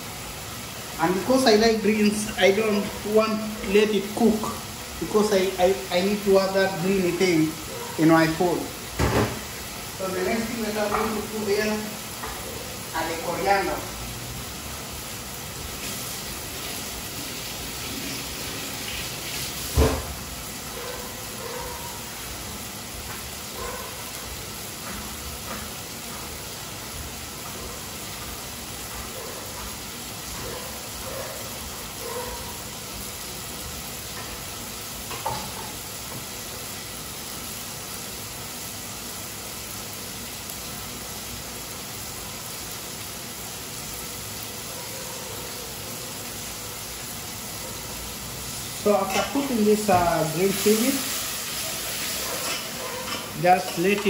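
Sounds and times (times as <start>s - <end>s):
vegetables sizzling in a frying pan: 0.0s - 54.0s.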